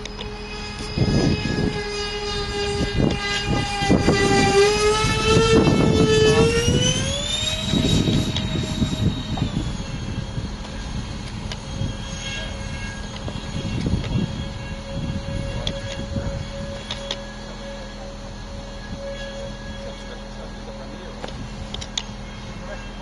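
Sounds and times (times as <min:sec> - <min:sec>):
low rumbling gusts: 0:00.0 - 0:23.0
model jet fans whining: 0:00.0 - 0:23.0.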